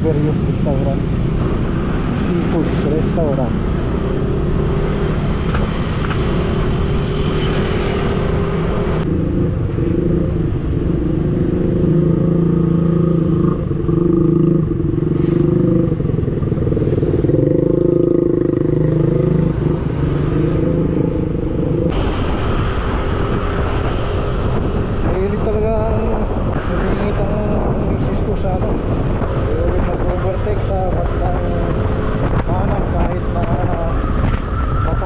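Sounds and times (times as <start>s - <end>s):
wind rushing on microphone: 0.0s - 35.0s.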